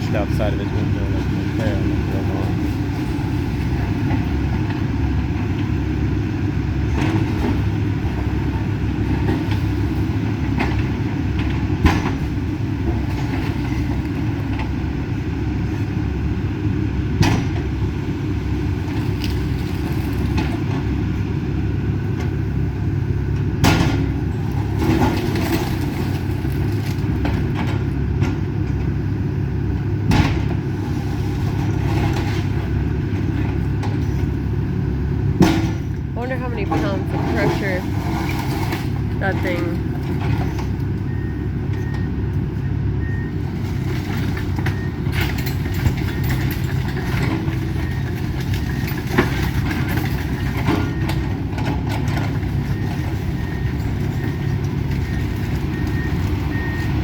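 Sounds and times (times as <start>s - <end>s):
excavator diesel engine rumbling: 0.0s - 57.0s.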